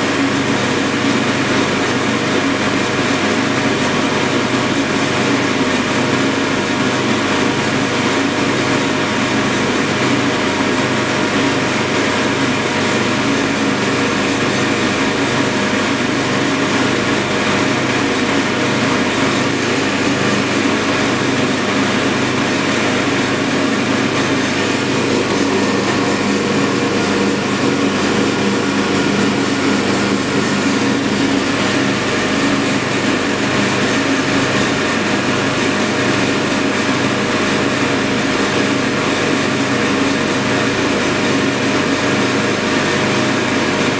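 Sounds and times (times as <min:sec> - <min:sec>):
cooling blower rushing air: 0:00.0 - 0:43.9.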